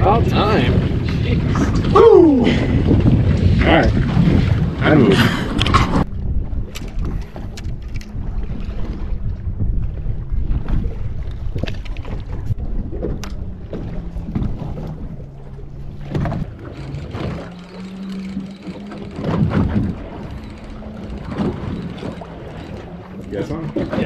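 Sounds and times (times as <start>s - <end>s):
boat motor hum: 0.0s - 24.0s
wind buffeting microphone: 0.0s - 24.0s.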